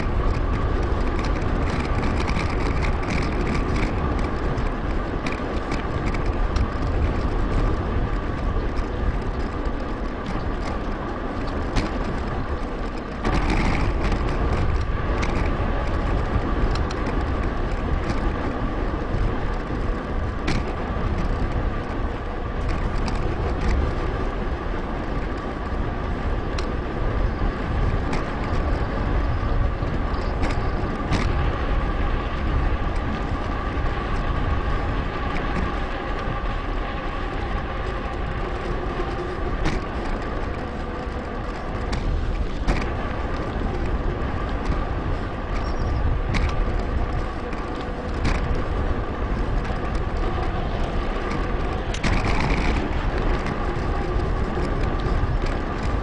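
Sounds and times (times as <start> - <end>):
bicycle clicks and ticks: 0.0 - 56.0
wind rumble on microphone: 0.0 - 56.0.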